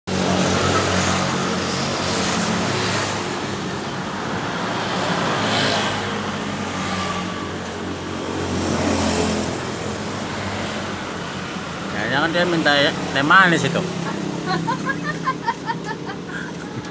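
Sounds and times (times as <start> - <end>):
traffic noise: 0.1 - 16.9.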